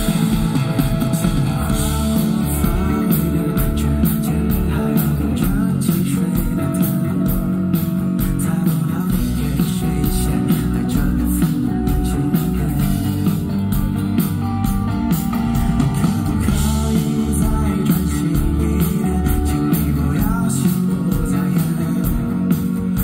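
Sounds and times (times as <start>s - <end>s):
person singing: 0.0s - 13.7s, 15.8s - 23.0s
electric guitar: 0.0s - 23.0s
steady drum beat: 0.0s - 23.0s.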